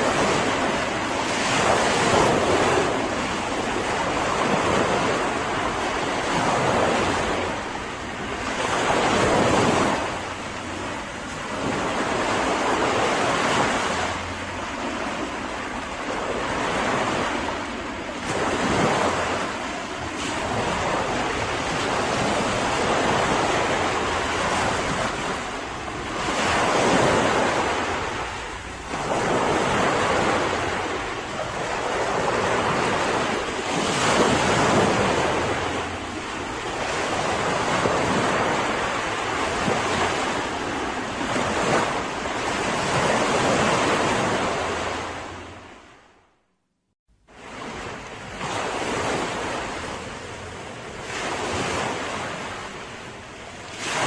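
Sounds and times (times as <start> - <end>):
sea waves breaking on beach: 0.0 - 46.1, 47.3 - 54.0.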